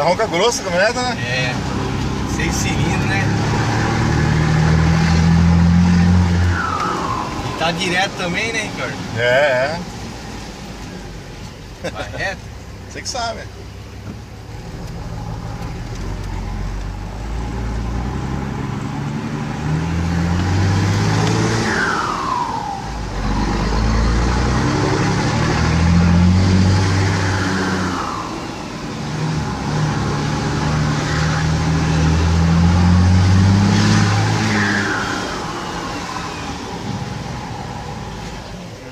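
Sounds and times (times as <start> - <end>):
truck engine pulling hard: 0.0 - 38.9.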